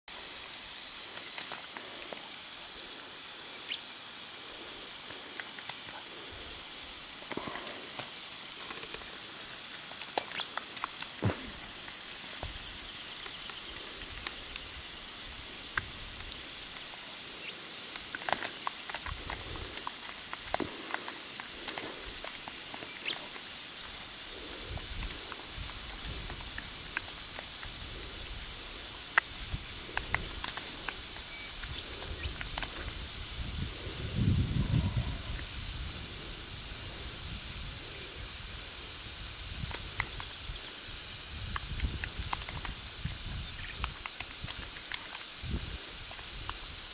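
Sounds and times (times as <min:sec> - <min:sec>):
water spraying hiss: 0:00.0 - 0:46.9.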